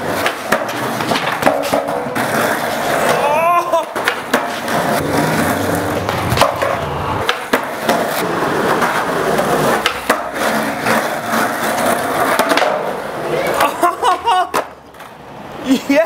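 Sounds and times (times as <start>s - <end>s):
skateboard clacking on ground: 0.0s - 15.6s
skateboard wheels rolling on concrete: 0.0s - 16.0s.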